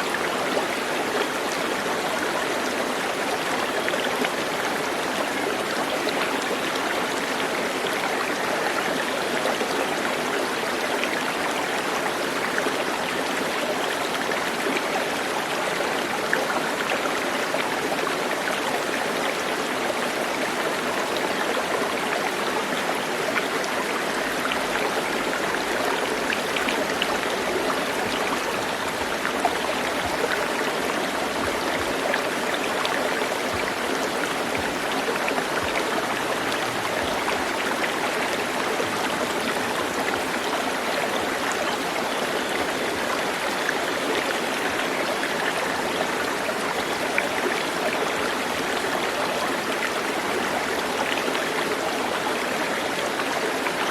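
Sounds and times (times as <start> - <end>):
stream water running: 0.0 - 53.9.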